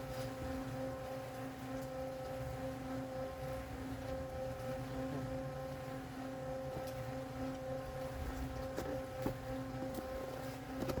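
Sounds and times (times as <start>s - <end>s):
machine engine humming: 0.0s - 11.0s.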